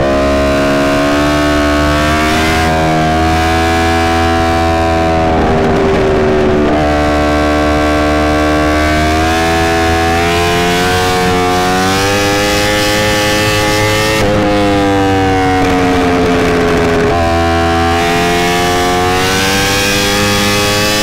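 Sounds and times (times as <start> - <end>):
motorcycle engine at speed: 0.0 - 21.0.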